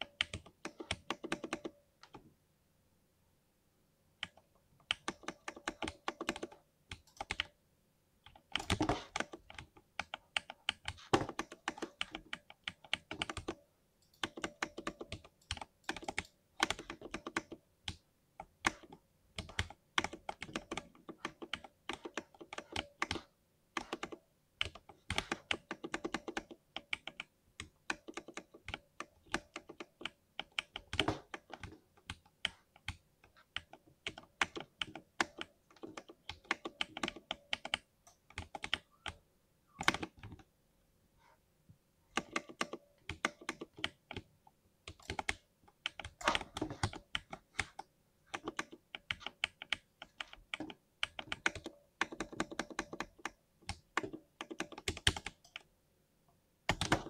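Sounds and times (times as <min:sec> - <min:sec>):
mechanical keyboard typing: 0:00.0 - 0:02.2, 0:04.2 - 0:07.6, 0:08.2 - 0:40.5, 0:42.1 - 0:44.3, 0:44.9 - 0:55.7, 0:56.7 - 0:57.0.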